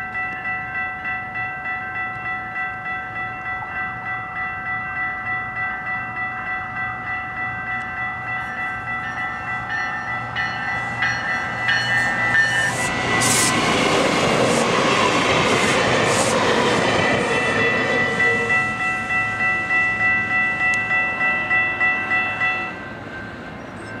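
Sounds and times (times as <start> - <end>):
level crossing bell ringing: 0.0 - 13.2, 16.9 - 24.0
train passing with rail noise: 0.0 - 24.0.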